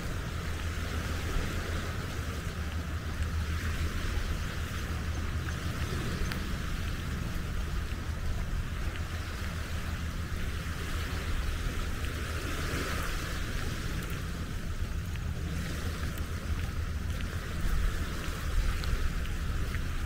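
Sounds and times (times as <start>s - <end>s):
steady outdoor hiss: 0.0s - 20.0s
wind rumbling on microphone: 0.0s - 20.0s.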